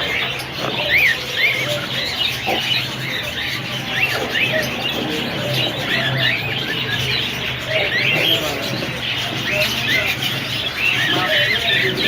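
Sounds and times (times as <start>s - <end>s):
parrots chattering: 0.0s - 12.0s.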